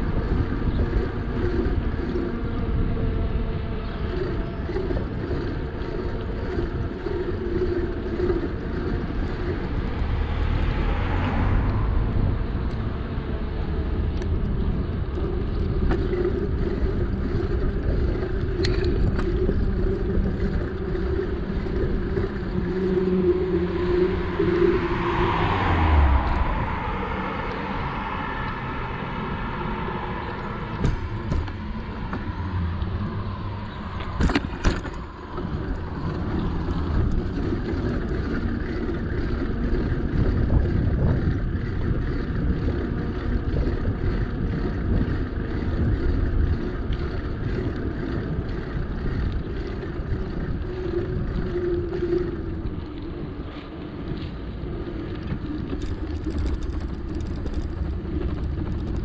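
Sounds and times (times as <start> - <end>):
bicycle tyre road noise: 0.0 - 59.0
passing motor vehicle hum: 0.0 - 59.0
wind rumbling on microphone: 0.0 - 59.0.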